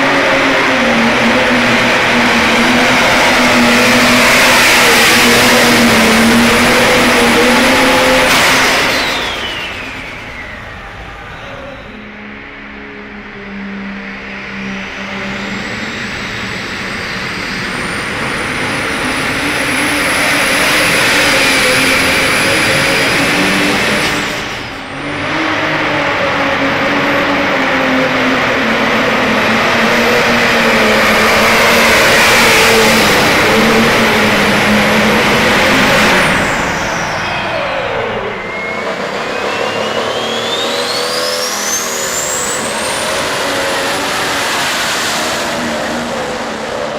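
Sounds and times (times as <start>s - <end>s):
engine at full throttle: 0.0s - 46.9s
high whine climbing in pitch: 0.0s - 46.9s.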